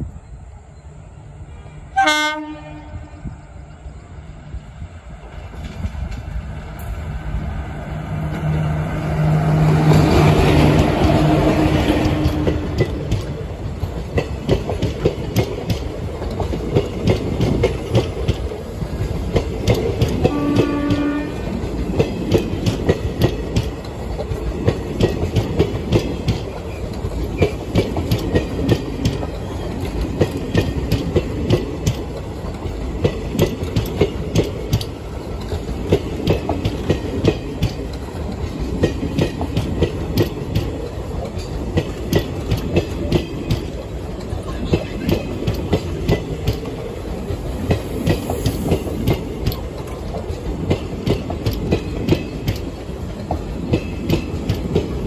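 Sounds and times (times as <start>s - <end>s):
low rolling noise: 2.8s - 55.0s
train wheels clicking over rail joints: 5.2s - 7.6s, 8.2s - 55.0s.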